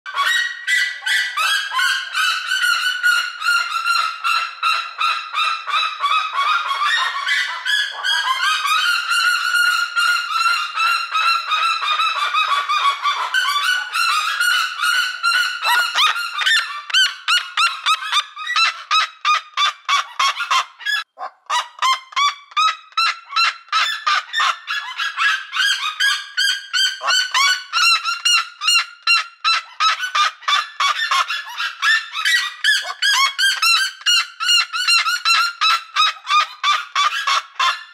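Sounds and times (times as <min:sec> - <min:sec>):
bird calling loudly: 0:00.1 - 0:37.9.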